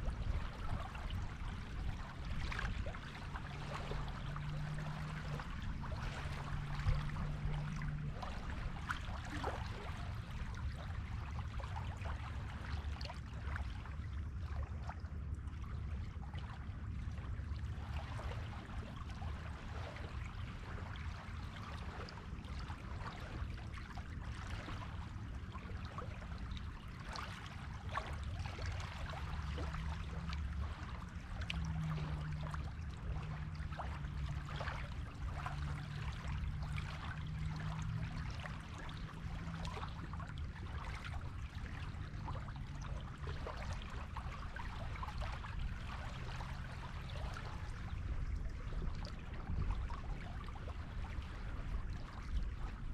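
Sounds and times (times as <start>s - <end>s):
waves washing onto beach: 0.0s - 13.8s, 17.6s - 52.9s
faint low hum: 0.0s - 52.9s.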